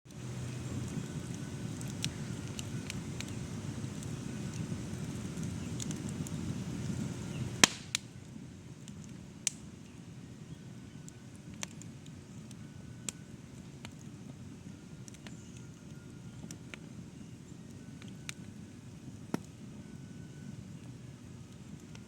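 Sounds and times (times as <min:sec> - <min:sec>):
campfire crackling and popping: 0:00.1 - 0:22.0.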